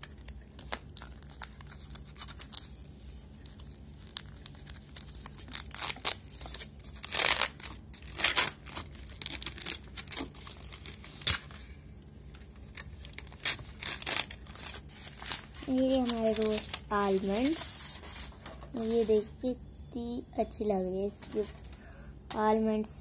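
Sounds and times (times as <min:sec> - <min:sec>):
foil wrapper crinkling and tearing: 0:00.0 - 0:19.0.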